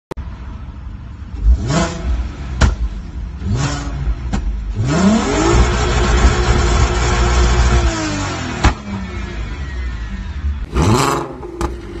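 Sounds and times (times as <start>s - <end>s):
car engine revving: 1.3s - 12.0s.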